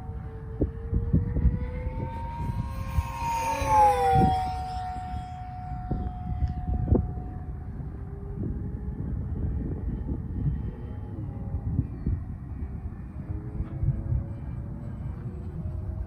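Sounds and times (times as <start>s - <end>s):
rc plane motor and propeller whine: 0.0s - 16.0s.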